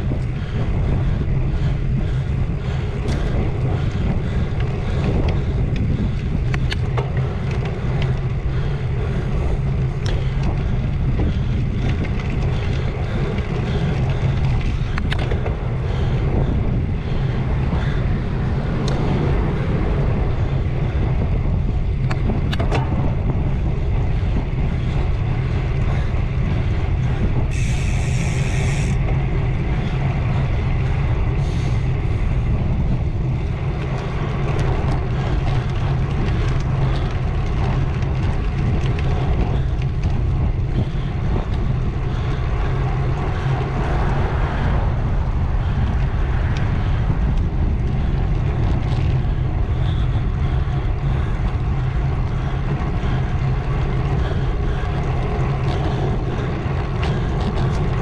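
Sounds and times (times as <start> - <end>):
tyre and road noise: 0.0 - 58.0
wind rush on microphone: 0.0 - 58.0.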